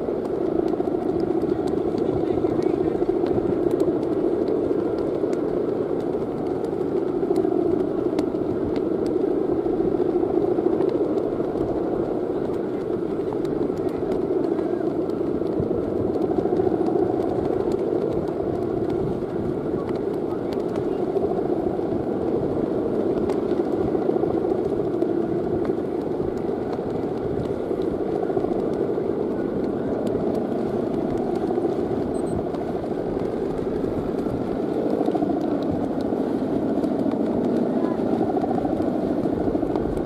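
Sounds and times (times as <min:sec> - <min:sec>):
kite hummer droning: 0:00.0 - 0:40.0.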